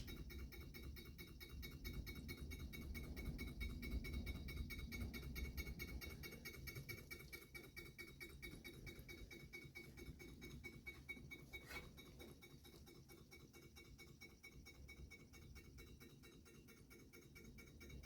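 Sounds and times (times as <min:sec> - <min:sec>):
hot air engine ticking: 0:00.0 - 0:18.0.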